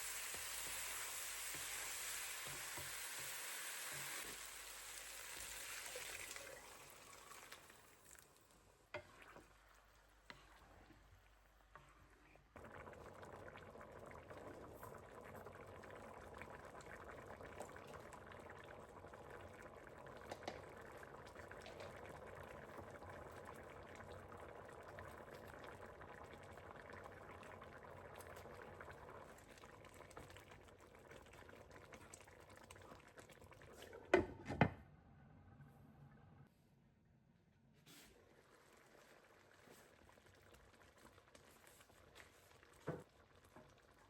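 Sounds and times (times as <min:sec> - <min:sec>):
liquid boiling in a pot: 0:00.0 - 0:34.7, 0:37.8 - 0:44.0.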